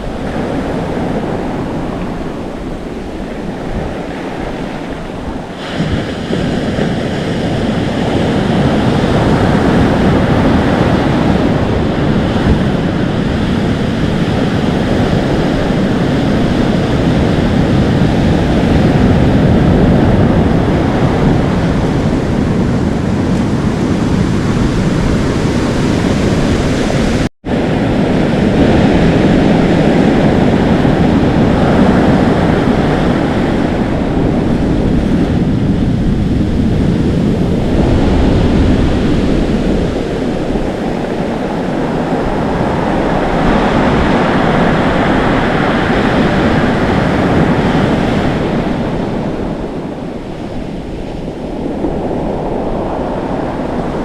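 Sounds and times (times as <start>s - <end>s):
waves washing on shore: 0.0s - 54.0s
wind on microphone: 0.0s - 54.0s.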